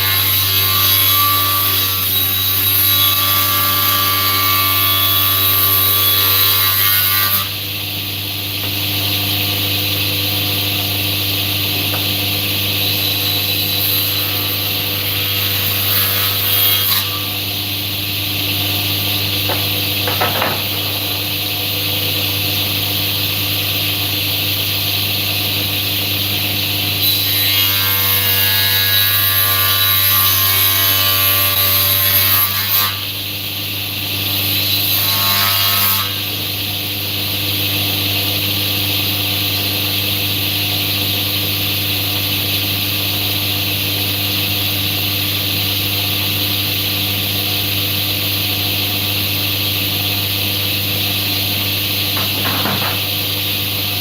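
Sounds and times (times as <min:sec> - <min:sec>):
power tool cutting wood: 0:00.0 - 0:07.8, 0:08.4 - 0:33.2, 0:34.2 - 0:37.0, 0:38.9 - 0:54.0.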